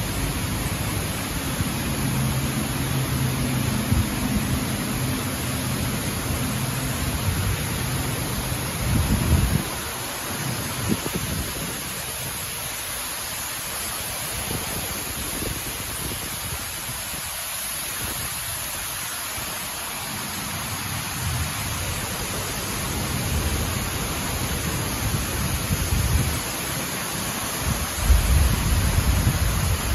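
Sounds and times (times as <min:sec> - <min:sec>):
heavy rain hissing: 0:00.0 - 0:29.9.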